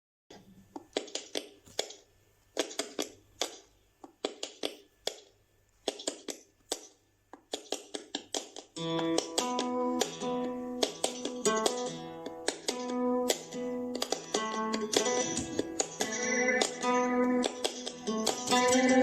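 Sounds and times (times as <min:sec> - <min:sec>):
sharp percussive taps and clicks: 0:00.3 - 0:02.0, 0:02.6 - 0:19.0.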